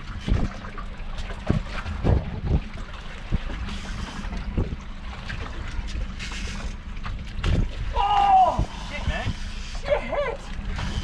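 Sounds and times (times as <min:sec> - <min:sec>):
low steady hum: 0:00.0 - 0:11.0
water sloshing against boat hull: 0:00.0 - 0:11.0.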